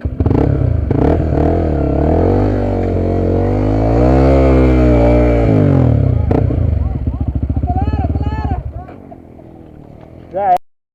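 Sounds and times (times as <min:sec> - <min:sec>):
motorcycle engine pulling: 0:00.0 - 0:10.6.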